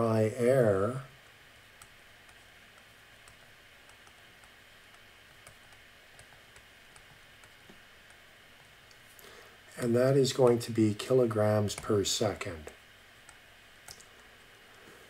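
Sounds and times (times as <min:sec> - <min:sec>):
low room tone hiss: 0:00.0 - 0:15.0.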